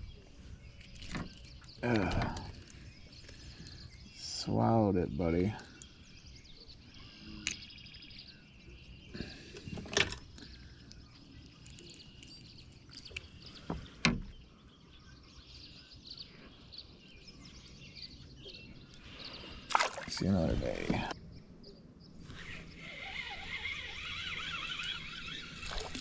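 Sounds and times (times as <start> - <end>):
bird chirps: 0.0 - 26.0
faint outdoor background: 0.0 - 26.0.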